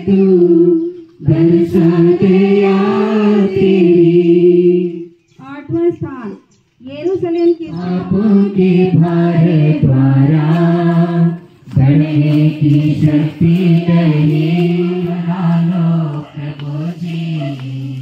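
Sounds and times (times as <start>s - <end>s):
group chanting a hymn: 0.0s - 5.2s, 7.6s - 18.0s.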